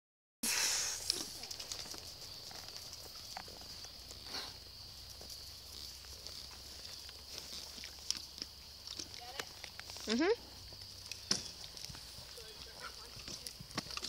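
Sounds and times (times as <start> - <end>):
distant hoofbeats on dirt: 1.3 - 14.0.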